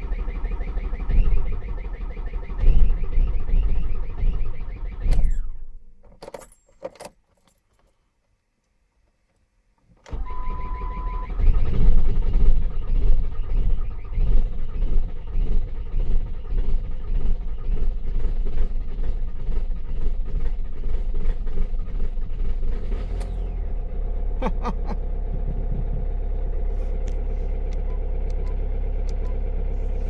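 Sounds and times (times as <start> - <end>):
car engine turning over: 0.0 - 5.8, 10.0 - 30.0.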